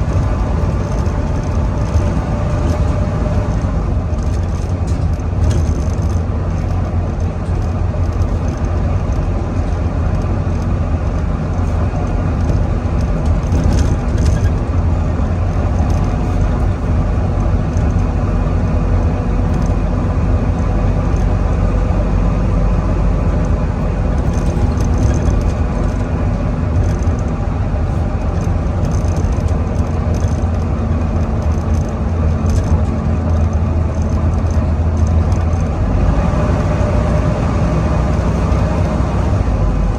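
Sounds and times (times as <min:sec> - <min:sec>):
bus diesel engine droning: 0:00.0 - 0:39.9
engine whine: 0:00.0 - 0:39.9.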